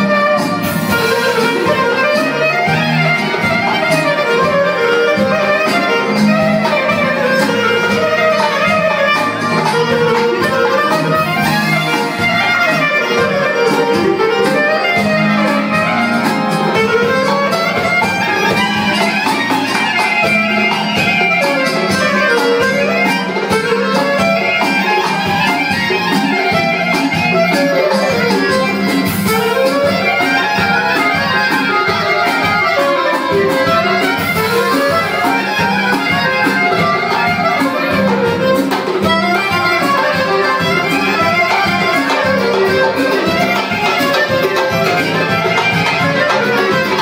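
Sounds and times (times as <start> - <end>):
folk dance band with accordion: 0.0 - 47.0.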